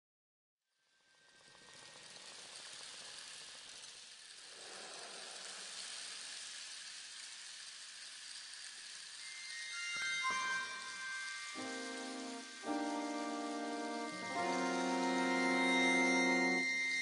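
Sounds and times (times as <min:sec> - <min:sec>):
falling rain hiss: 0:01.4 - 0:17.0.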